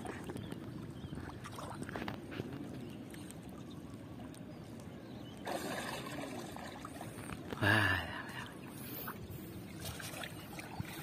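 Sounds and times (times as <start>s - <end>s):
rush of water: 0.0s - 11.0s.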